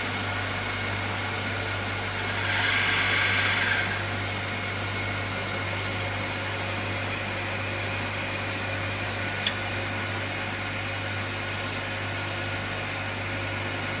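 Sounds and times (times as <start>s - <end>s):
machine humming and hissing: 0.0s - 14.0s.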